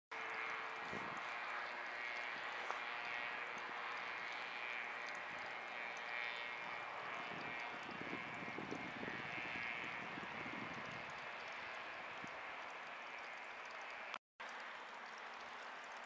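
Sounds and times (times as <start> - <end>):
light aircraft drone overhead: 0.2 - 16.0.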